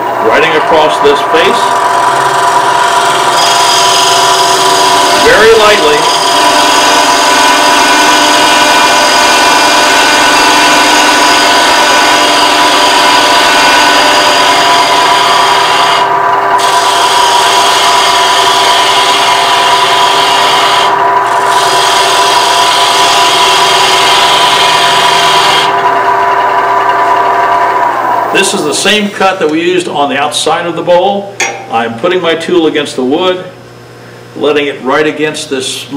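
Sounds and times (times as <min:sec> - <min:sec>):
lathe running tone: 0:00.0 - 0:29.8.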